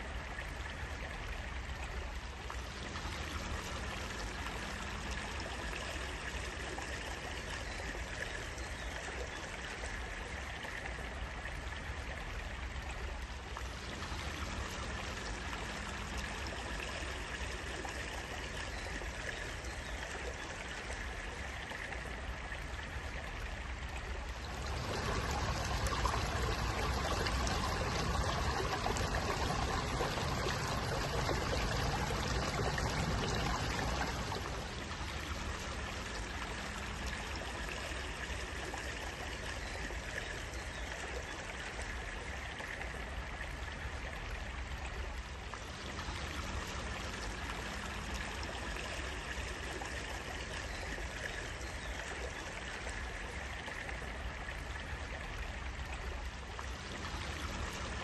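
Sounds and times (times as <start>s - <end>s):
stream water rushing and trickling: 0.0s - 58.0s.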